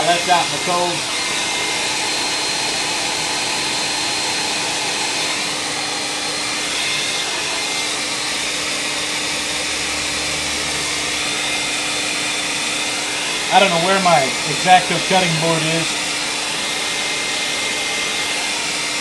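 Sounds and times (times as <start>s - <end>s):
electric blower motor running: 0.0s - 19.0s.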